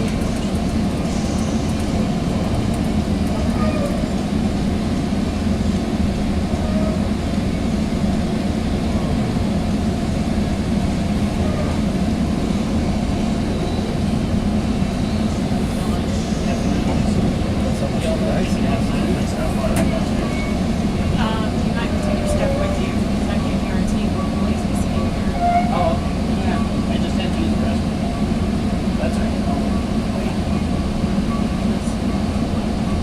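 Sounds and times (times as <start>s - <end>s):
train coach rumble: 0.0s - 33.0s.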